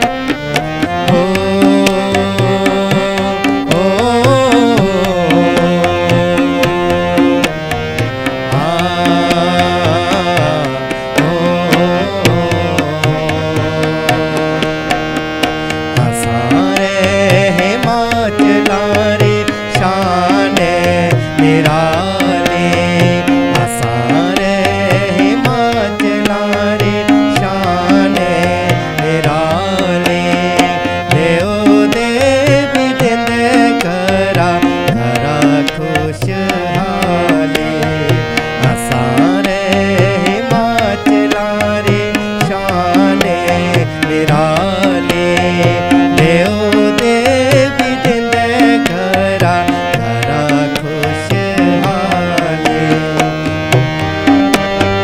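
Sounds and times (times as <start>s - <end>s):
harmonium melody: 0.0s - 55.0s
tabla drumming: 0.0s - 55.0s.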